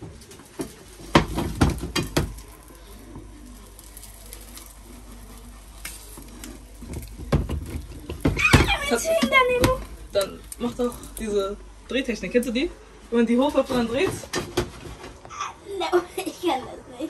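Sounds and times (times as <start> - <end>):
quiet steady noise: 0.0 - 17.0.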